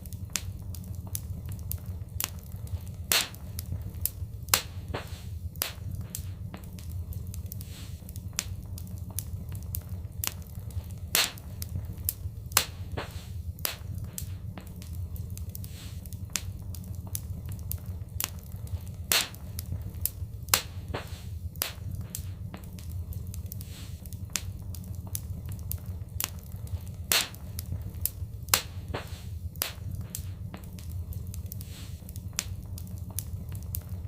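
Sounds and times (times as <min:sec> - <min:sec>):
low fire rumble: 0:00.0 - 0:34.0
wood fire crackling: 0:00.0 - 0:34.0.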